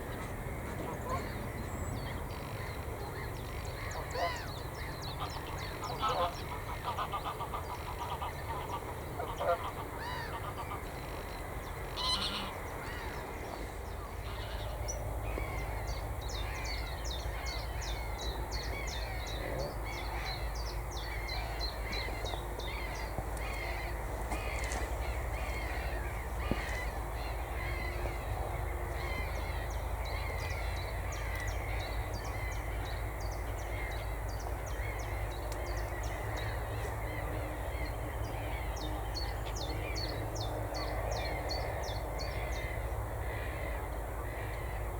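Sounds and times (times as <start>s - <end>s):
chorus of bird calls: 0.0s - 44.9s.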